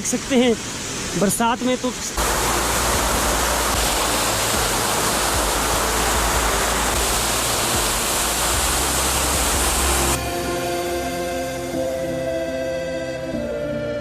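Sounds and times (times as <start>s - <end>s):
waterfall rushing: 0.0s - 13.6s
electronic background music: 2.3s - 14.0s.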